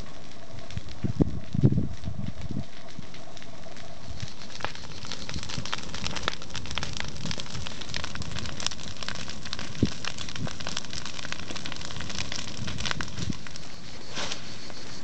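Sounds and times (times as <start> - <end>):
grass fire crackling: 0.0 - 15.0.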